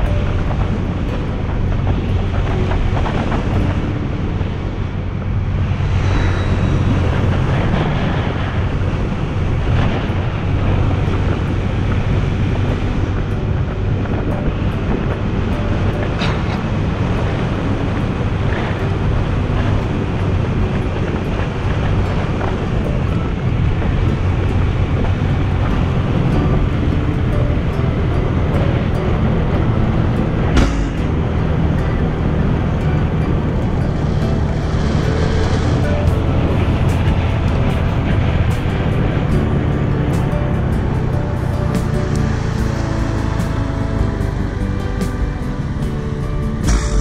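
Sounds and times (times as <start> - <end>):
wind on microphone: 0.0 - 47.0.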